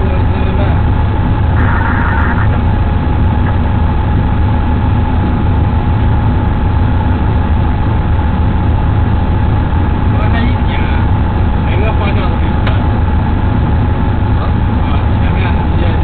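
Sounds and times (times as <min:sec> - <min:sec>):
locomotive engine rumble: 0:00.0 - 0:16.0
thin steady whine: 0:00.0 - 0:16.0.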